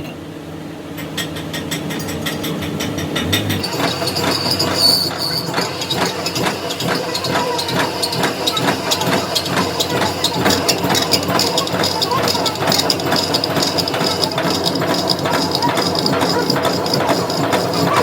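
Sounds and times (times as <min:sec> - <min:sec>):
high machine whine: 0:02.0 - 0:18.0.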